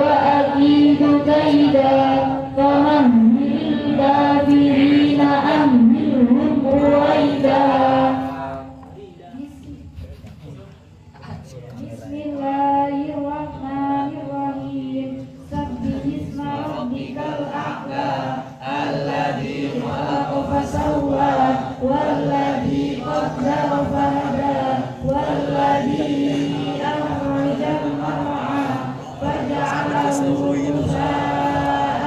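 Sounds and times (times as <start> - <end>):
girls chanting over loudspeaker: 0.0 - 8.9, 12.0 - 32.0.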